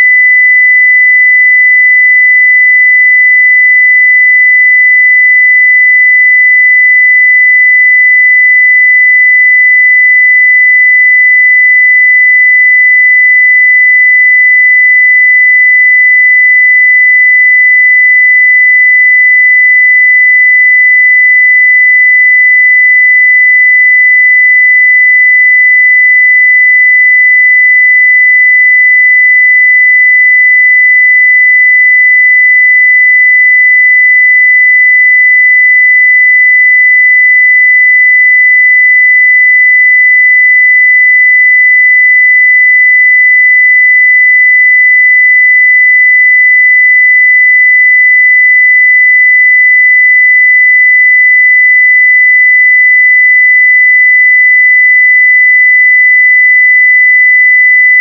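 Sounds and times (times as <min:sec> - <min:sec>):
sine-wave test tone: 0:00.0 - 0:58.0.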